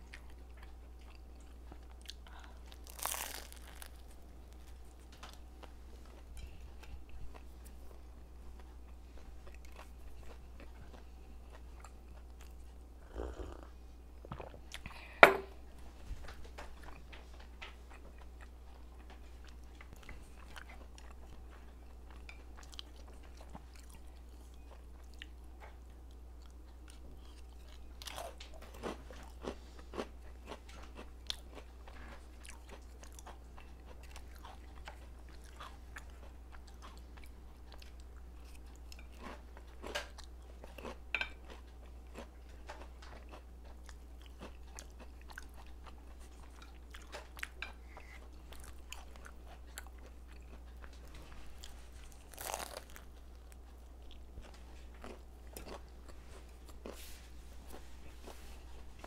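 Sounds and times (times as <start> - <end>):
faint low hum: 0.0 - 59.0
person chewing food: 0.0 - 59.0.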